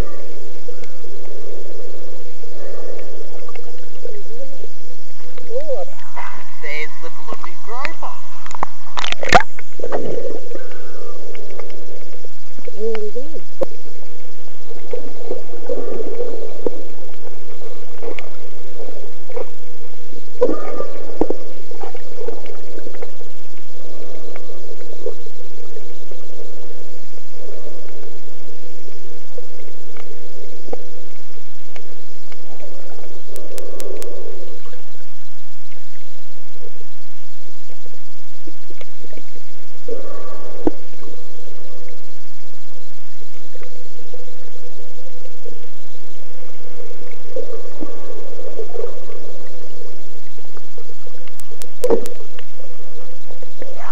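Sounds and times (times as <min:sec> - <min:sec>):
muffled underwater water sloshing: 0:00.0 - 0:53.9.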